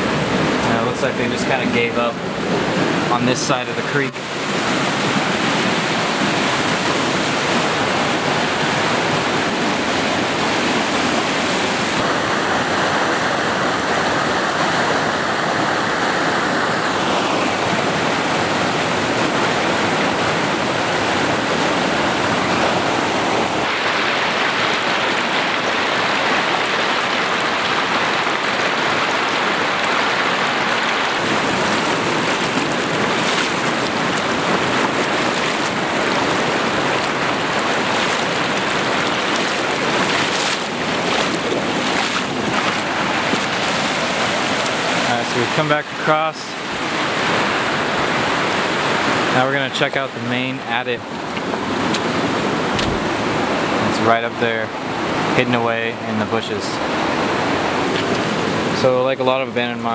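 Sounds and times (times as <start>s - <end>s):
creek rushing over rocks: 0.0s - 59.9s.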